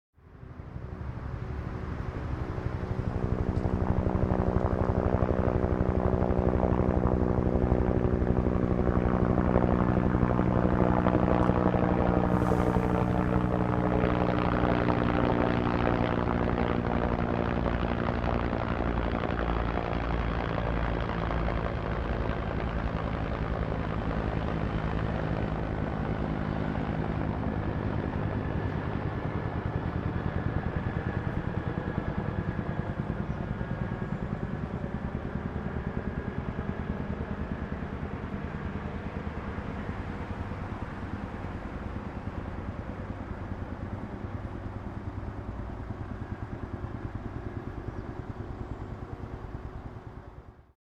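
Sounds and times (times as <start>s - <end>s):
distant helicopter rotor chop: 0.2s - 50.7s.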